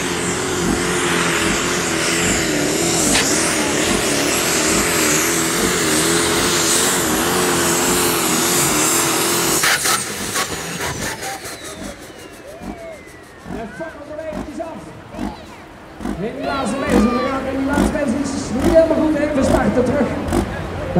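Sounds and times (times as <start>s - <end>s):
diesel tractor engine under load: 0.0s - 20.9s
heavy rushing noise: 0.0s - 20.9s.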